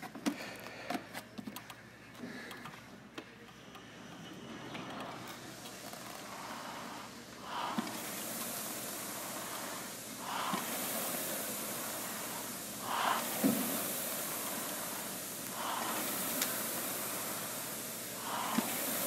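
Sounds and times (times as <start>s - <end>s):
rowing machine fan whooshing: 3.5s - 19.0s.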